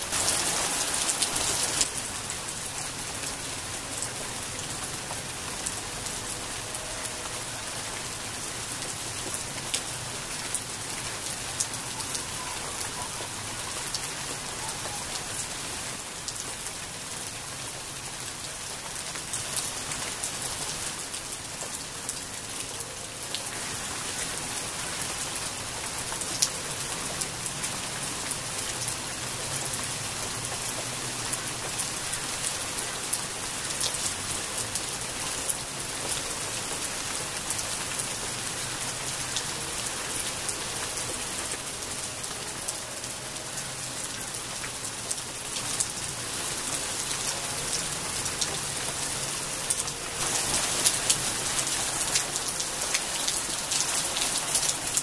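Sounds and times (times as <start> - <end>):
rain on foliage: 0.0 - 55.0.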